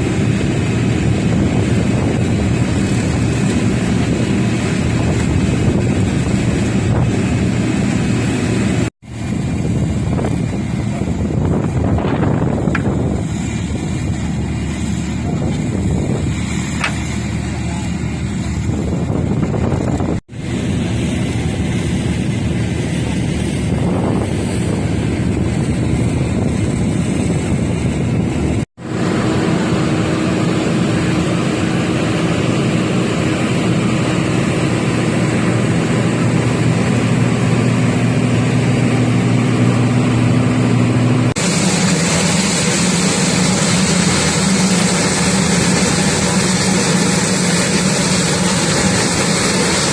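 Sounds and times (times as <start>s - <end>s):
turboprop engine drone: 0.0s - 49.9s.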